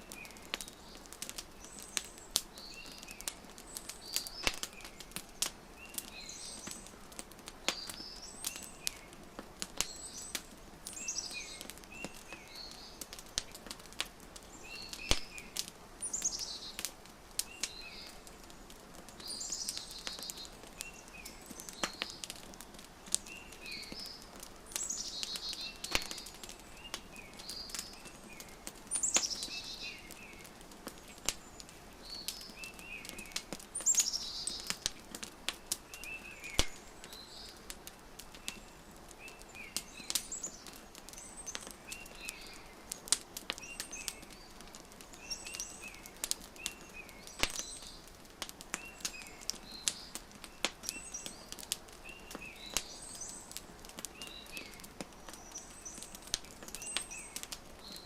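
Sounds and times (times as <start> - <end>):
songbirds chirping: 0.0 - 58.0
wood fire crackling: 0.0 - 58.0.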